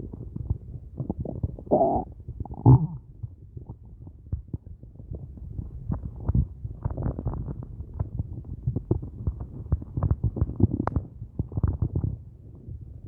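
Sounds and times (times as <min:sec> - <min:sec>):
stomach growling and gurgling: 0:00.0 - 0:13.0.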